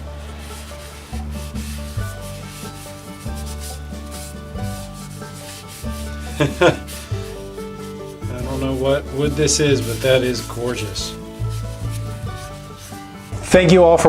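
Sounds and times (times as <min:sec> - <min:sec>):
rubbing on wooden handle: 0:00.0 - 0:13.5
background music with bass line: 0:00.0 - 0:14.0.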